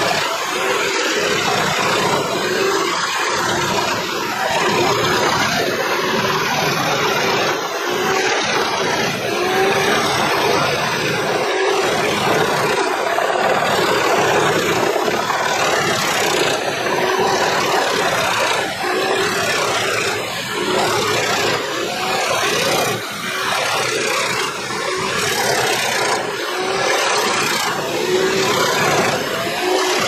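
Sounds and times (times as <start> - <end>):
wood chipper grinding logs: 0.0 - 30.0.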